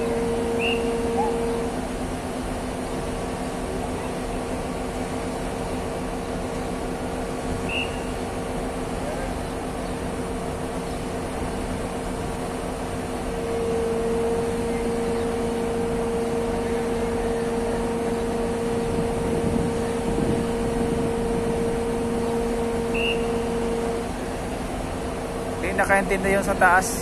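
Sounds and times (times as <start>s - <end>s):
crane engine and hoist whining: 0.0s - 27.0s.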